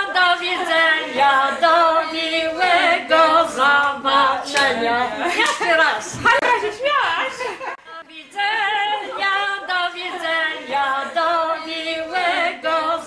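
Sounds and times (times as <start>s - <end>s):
group singing unaccompanied: 0.0s - 6.4s, 7.8s - 13.0s.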